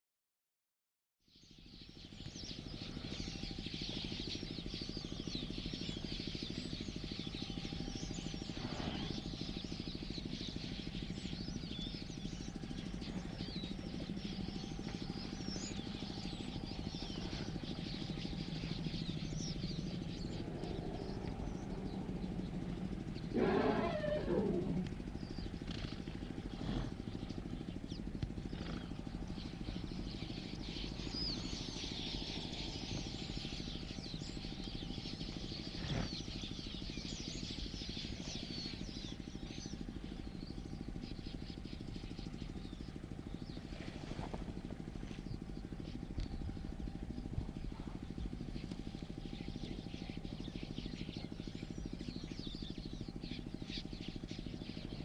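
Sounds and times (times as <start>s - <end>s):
small birds twittering: 1.3s - 55.0s
steady low hum: 1.3s - 55.0s.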